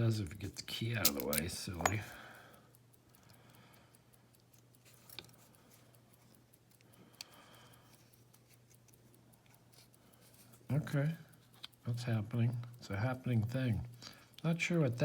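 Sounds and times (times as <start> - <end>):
faint clicks: 0.3 - 15.0.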